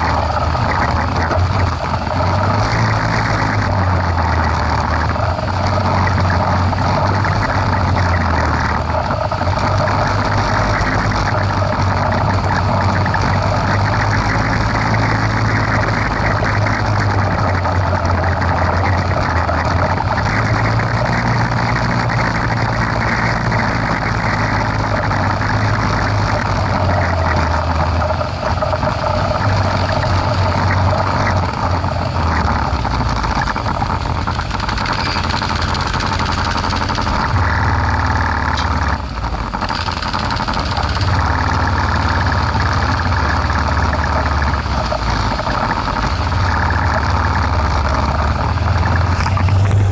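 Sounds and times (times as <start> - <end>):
atv engine revving: 0.0 - 49.9.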